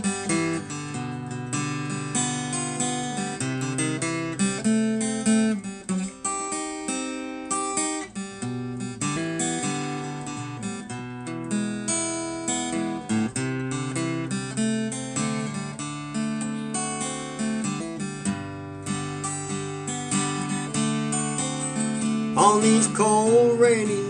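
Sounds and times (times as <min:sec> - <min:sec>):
slow blues guitar chords: 0:00.0 - 0:24.0.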